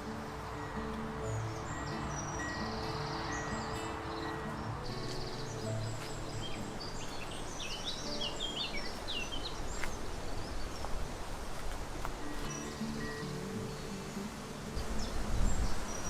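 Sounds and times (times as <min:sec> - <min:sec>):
songbird chirping: 0:00.0 - 0:16.0
steady outdoor hiss: 0:00.0 - 0:16.0.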